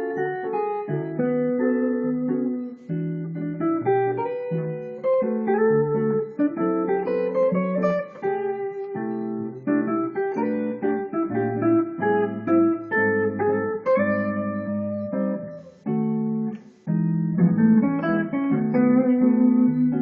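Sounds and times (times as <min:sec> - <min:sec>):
electric guitar jazz chords: 0:00.0 - 0:20.0.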